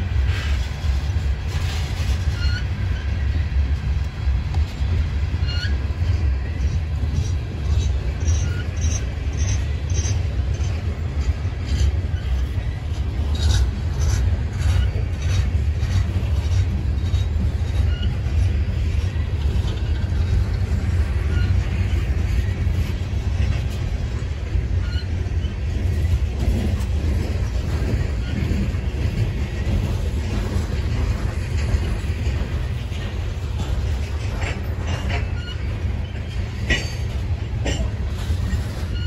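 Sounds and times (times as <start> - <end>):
train cars clicking and clanking: 0.0 - 39.0
train wheels rumbling on rail: 0.0 - 39.0.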